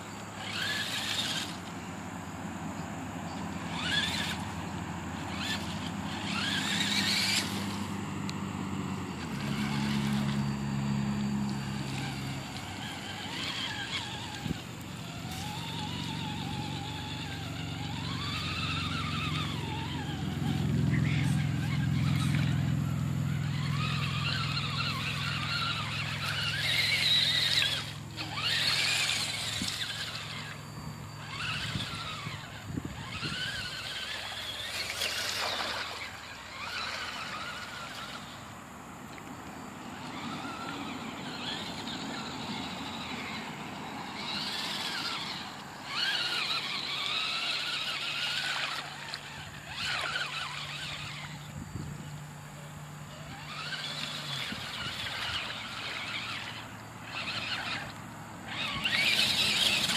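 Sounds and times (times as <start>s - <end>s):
electric motor and gearbox whining: 0.0s - 59.9s.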